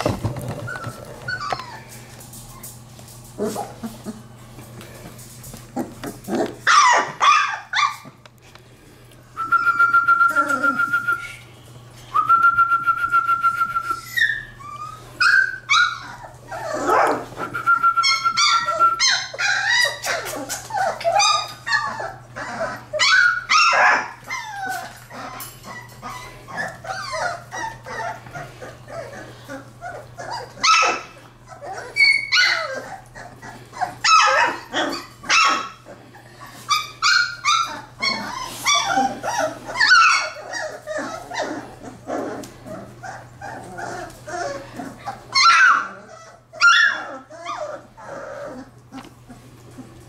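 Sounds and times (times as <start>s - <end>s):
puppies whining and yipping: 0.0s - 4.3s, 5.7s - 8.2s, 9.3s - 11.5s, 13.1s - 50.0s.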